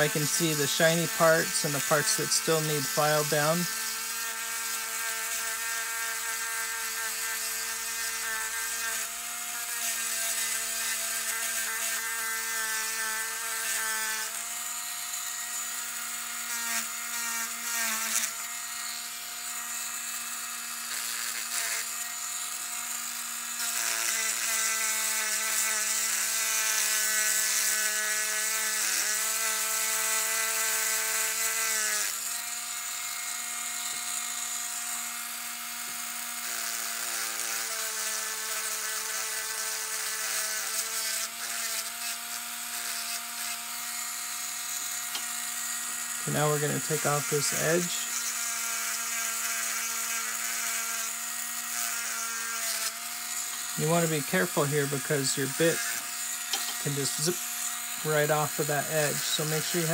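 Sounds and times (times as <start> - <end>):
electric drill whining while grinding: 0.0 - 59.9.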